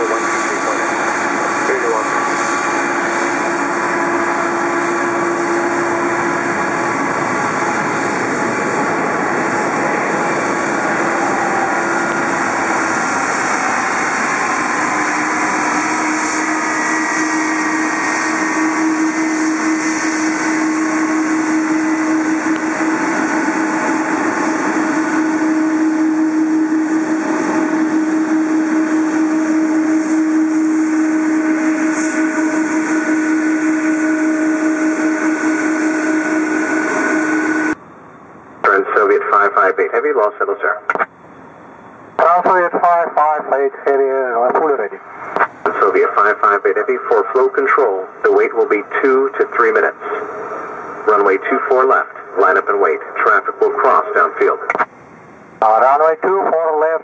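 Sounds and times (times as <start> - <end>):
jet engines at taxi power: 0.0 - 57.0.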